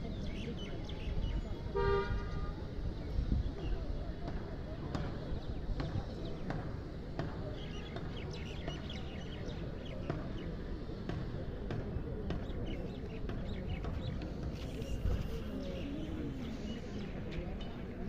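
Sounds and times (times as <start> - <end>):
murmur of distant voices: 0.0 - 18.0.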